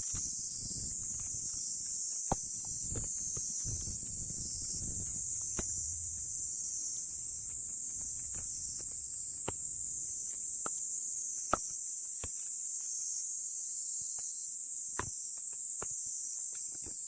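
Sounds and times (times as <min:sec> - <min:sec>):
high-pitched insect chorus: 0:00.0 - 0:16.7.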